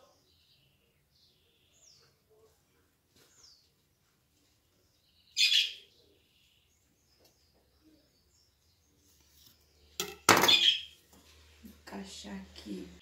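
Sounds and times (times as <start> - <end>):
bird chirp: 0.0 - 2.6, 3.2 - 11.0.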